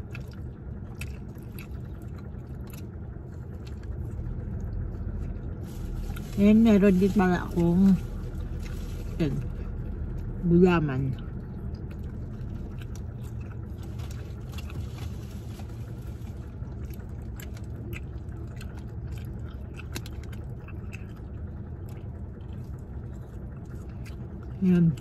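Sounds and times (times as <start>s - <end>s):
person chewing snacks: 0.0s - 6.2s, 11.2s - 25.0s
car cabin hum: 0.0s - 25.0s.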